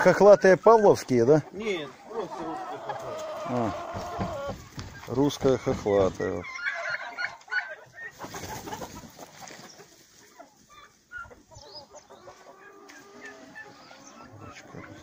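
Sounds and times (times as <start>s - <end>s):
young chickens clucking: 0.0s - 15.0s.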